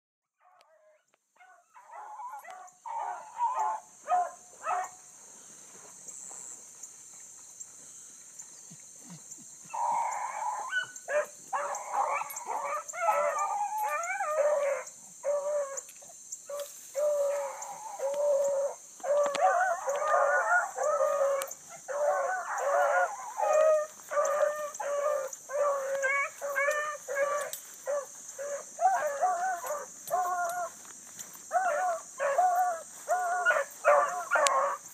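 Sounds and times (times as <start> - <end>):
hounds baying: 0.4 - 5.1, 8.5 - 34.9
steady high hiss: 3.6 - 34.9.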